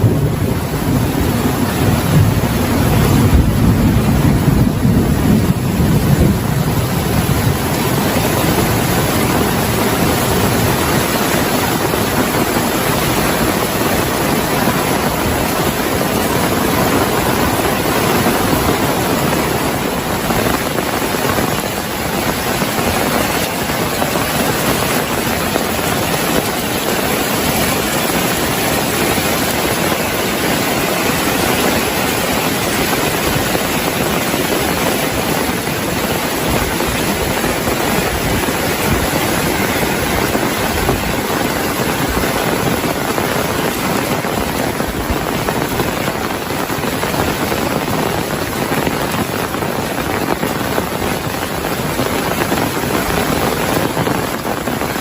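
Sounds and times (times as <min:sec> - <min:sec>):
heavy rain pouring: 0:00.0 - 0:55.0
thunder rumbling: 0:00.0 - 0:55.0.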